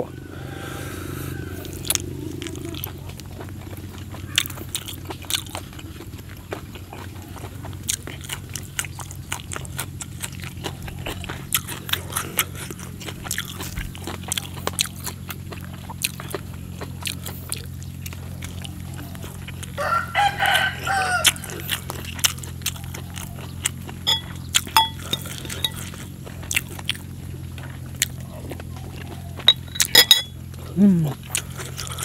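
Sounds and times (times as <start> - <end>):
steady low hum: 0.0 - 32.0
wet chewing and lip smacking: 1.4 - 32.0.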